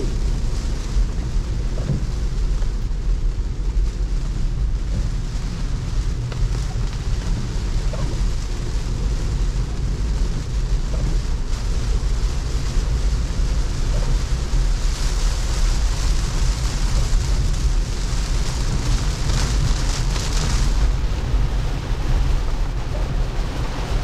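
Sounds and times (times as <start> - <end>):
heavy rain on car: 0.0 - 24.0
tyres on wet road: 0.0 - 24.0.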